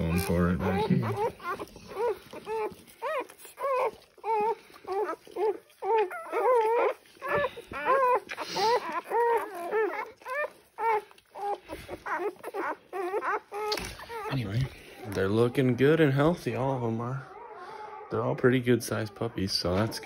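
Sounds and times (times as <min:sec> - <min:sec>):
puppies squeaking and whimpering: 0:00.0 - 0:20.0.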